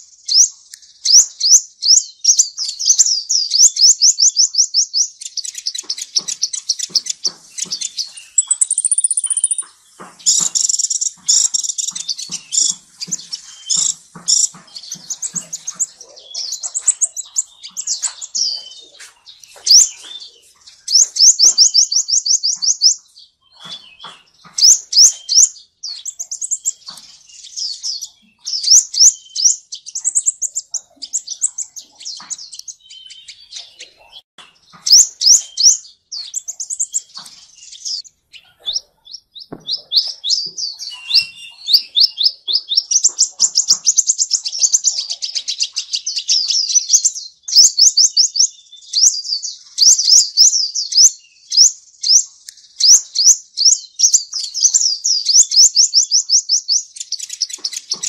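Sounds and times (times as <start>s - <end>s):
bird chirping: 0.0s - 58.0s.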